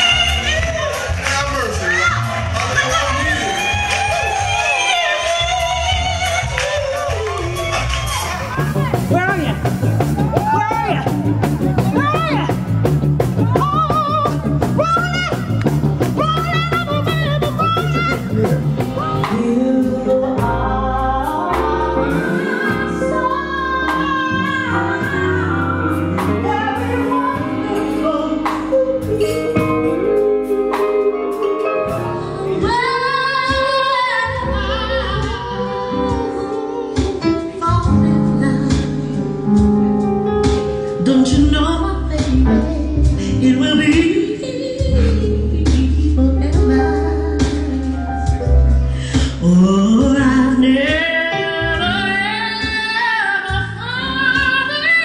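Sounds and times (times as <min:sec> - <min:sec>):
instrumental backing music: 0:00.0 - 0:55.0
keyboard playing: 0:00.0 - 0:55.0
woman singing into microphone: 0:02.8 - 0:11.2, 0:13.4 - 0:55.0.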